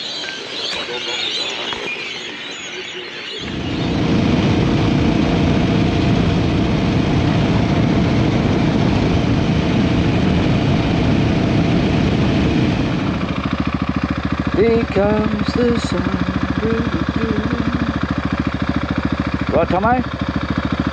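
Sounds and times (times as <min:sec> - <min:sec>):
motorcycle engine running: 0:03.4 - 0:20.9.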